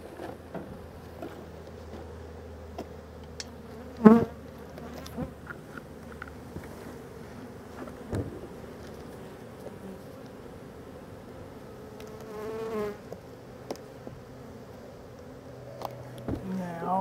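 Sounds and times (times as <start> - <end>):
bees buzzing: 0.1 - 17.0.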